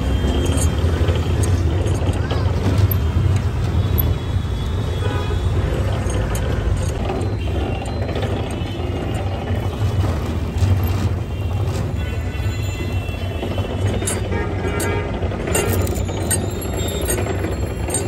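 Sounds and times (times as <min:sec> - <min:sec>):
sugarcane rollers grinding: 0:00.0 - 0:18.0.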